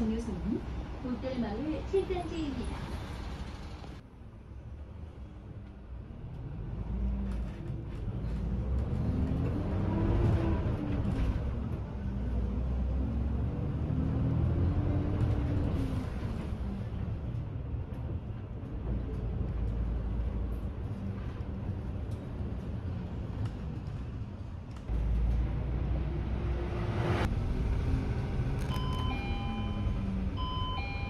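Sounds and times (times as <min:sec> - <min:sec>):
bus engine and road rumble: 0:00.0 - 0:31.0
bus whine: 0:00.0 - 0:31.0.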